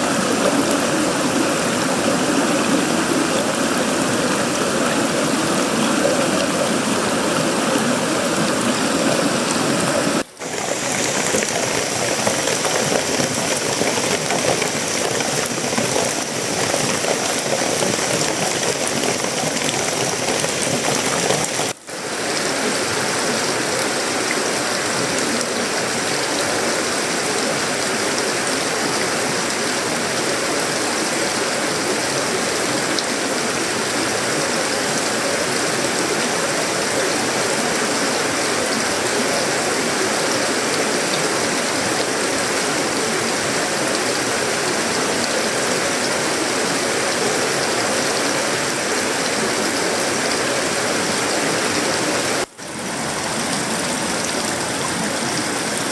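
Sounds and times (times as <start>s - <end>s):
heavy rain on a metal roof: 0.0s - 55.9s.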